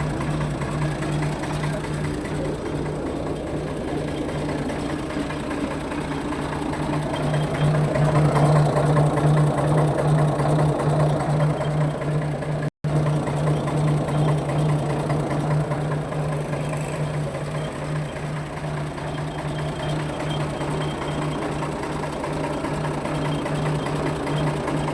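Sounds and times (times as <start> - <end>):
diesel tractor engine running: 0.0 - 24.9.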